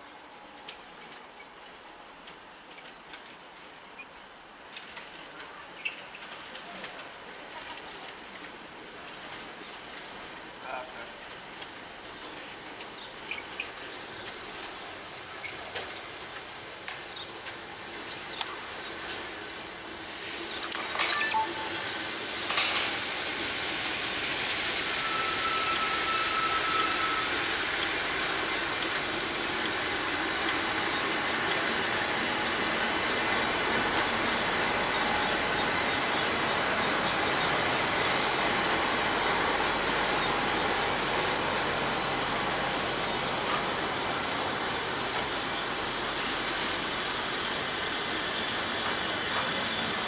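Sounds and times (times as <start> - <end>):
train wheel and track noise: 0.0 - 50.0.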